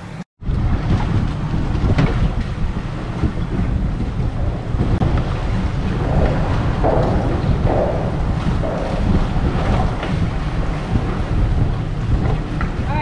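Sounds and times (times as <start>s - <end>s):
water washing around hull: 0.4s - 13.0s
wind buffeting microphone: 0.4s - 13.0s.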